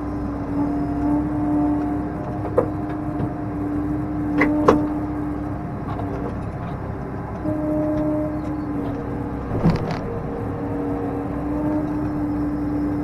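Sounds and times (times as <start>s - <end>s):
tractor engine hum: 0.0s - 13.0s.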